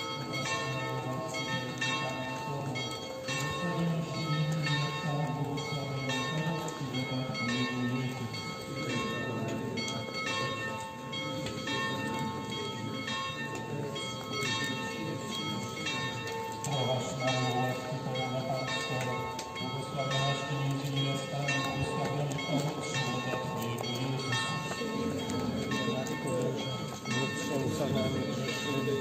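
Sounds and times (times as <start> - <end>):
bells ringing: 0.0 - 29.0
crowd voices: 0.0 - 29.0.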